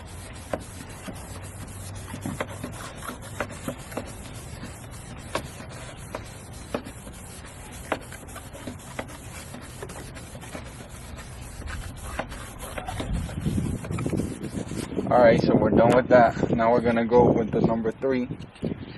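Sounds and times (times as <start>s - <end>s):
sanding pad scraping plastic: 0.0s - 16.0s.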